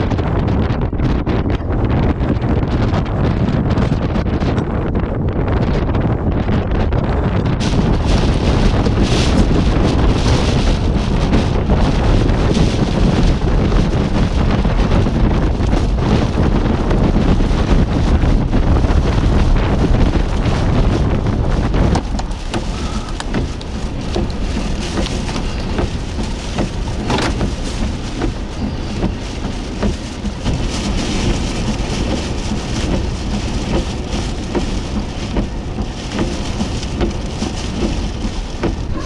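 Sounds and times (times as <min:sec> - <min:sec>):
low wind rumble: 0:00.0 - 0:39.0
road and tyre noise: 0:00.0 - 0:39.0
rain pattering on car: 0:07.6 - 0:39.0.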